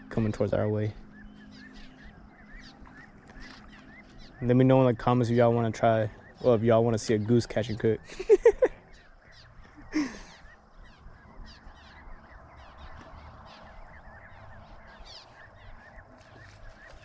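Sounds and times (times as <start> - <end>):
goslings peeping: 0.0 - 17.0.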